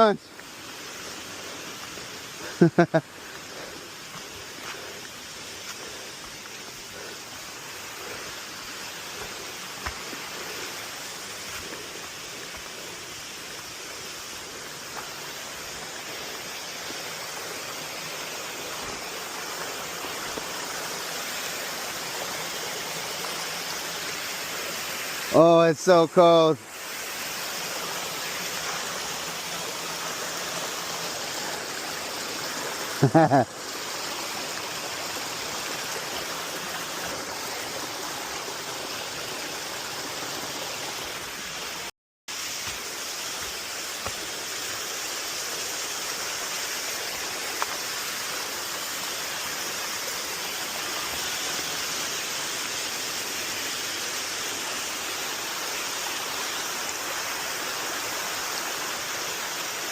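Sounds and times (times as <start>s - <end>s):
stream and waterfall rushing: 0.0s - 59.9s.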